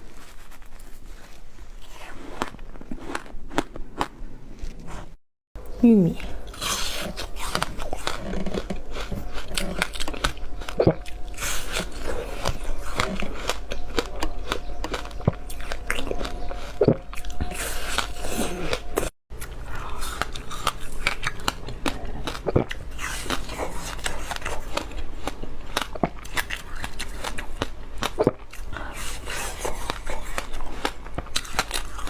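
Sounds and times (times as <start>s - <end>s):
chewing frozen ice crunches: 0.0s - 4.7s, 6.2s - 32.0s.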